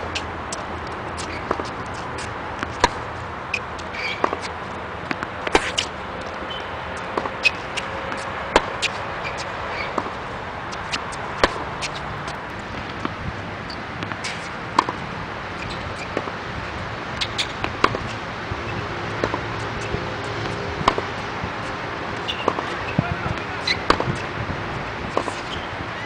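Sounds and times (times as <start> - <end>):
balls bouncing on hard court: 0.0 - 15.0, 15.6 - 26.0
tennis balls struck by rackets: 0.0 - 25.9.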